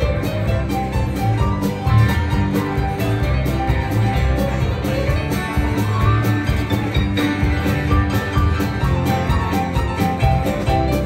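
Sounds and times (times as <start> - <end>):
acoustic guitar strumming: 0.0 - 11.0
bass: 0.0 - 11.0
drums keeping a steady beat: 0.0 - 11.0
electric guitars: 0.0 - 11.0.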